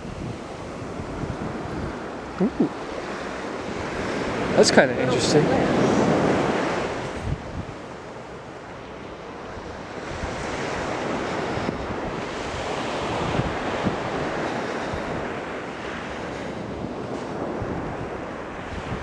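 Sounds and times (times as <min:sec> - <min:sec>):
ocean surf washing on beach: 0:00.0 - 0:19.0
wind buffeting microphone: 0:00.0 - 0:19.0.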